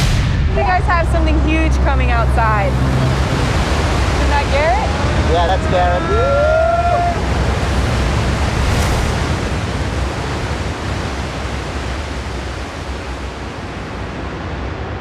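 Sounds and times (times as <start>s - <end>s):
large ocean wave breaking: 0.0s - 15.0s.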